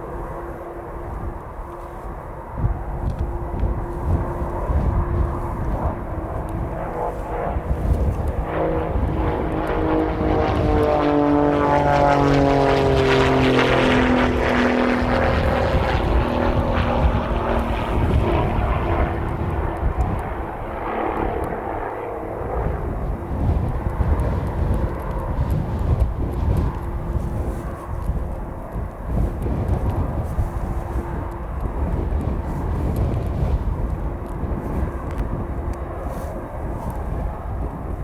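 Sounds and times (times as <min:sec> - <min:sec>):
jet engines whining: 0:00.0 - 0:38.0
wind noise on microphone: 0:00.0 - 0:38.0.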